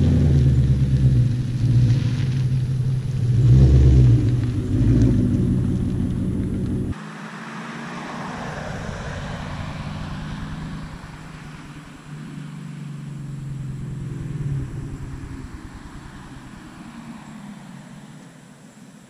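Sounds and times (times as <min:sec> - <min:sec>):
loud deep exhaust rumble: 0:00.0 - 0:07.0, 0:08.7 - 0:17.9
distant car engine: 0:00.0 - 0:19.0.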